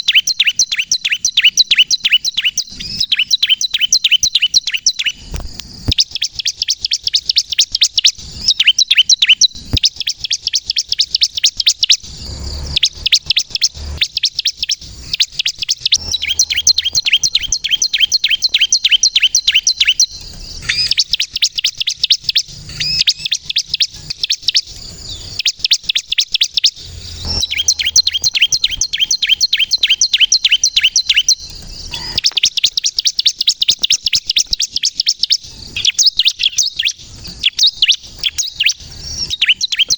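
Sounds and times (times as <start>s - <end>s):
bird singing high chirps: 0.0s - 5.4s, 6.0s - 39.9s.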